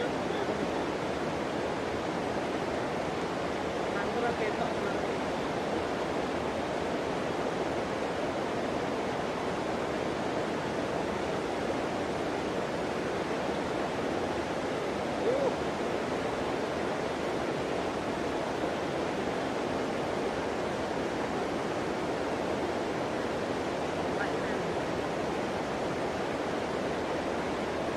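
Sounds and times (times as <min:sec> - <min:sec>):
river water rushing: 0:00.0 - 0:27.9.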